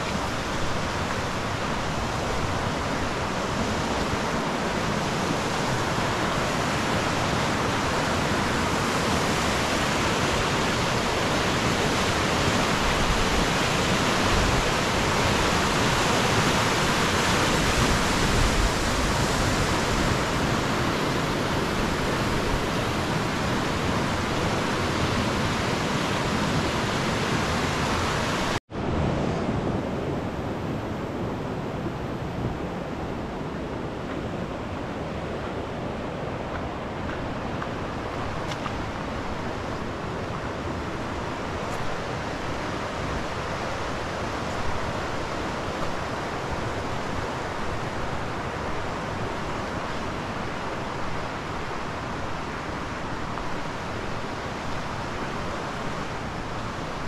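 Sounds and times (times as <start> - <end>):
mountain river rushing: 0.0 - 57.0.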